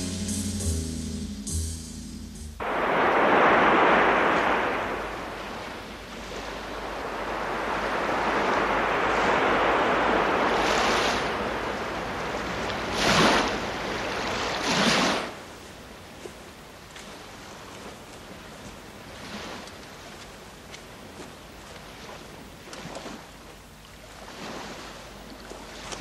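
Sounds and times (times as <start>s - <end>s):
sea waves breaking on shore: 2.6s - 26.0s.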